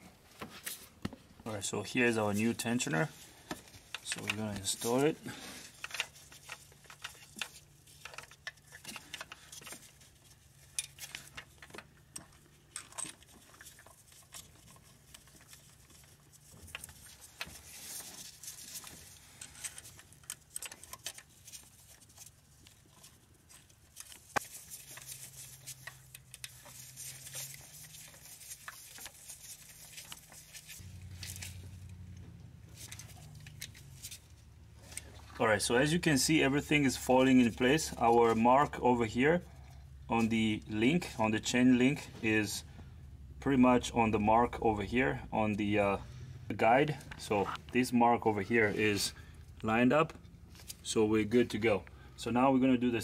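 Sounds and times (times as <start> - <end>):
faint low hum: 1.3 - 53.0.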